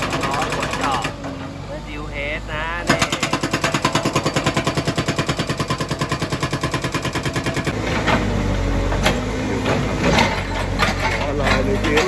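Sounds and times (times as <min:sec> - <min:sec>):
hydraulic breaker hammering concrete: 0:00.0 - 0:01.5, 0:02.8 - 0:12.0
diesel engine running: 0:00.0 - 0:12.0.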